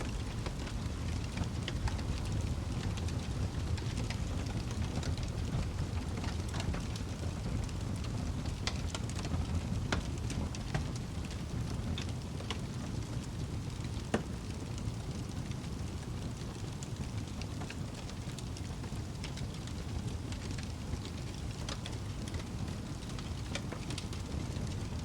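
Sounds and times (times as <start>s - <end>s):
logs crackling and popping: 0.0s - 25.0s
low rumble of flame: 0.0s - 25.0s.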